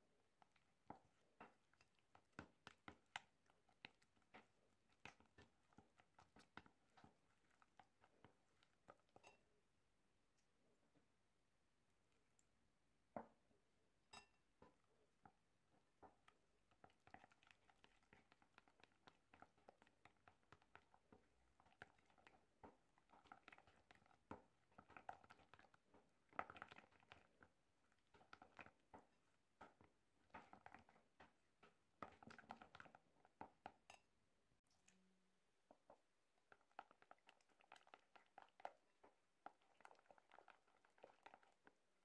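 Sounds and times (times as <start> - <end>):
spatula stirring thick cream: 0.0 - 10.7, 14.4 - 34.2, 35.6 - 42.0.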